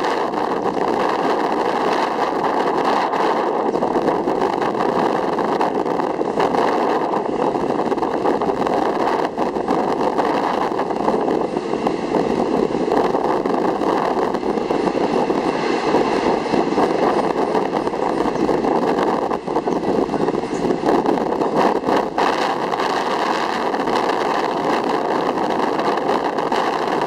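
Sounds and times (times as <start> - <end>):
rushing air: 0.0 - 27.0
train wheels rolling on rails: 0.0 - 27.0.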